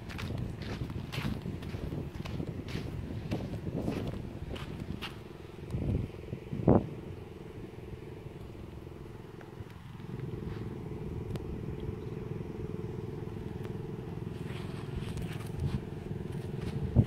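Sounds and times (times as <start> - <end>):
engine droning hum: 0.0 - 17.0.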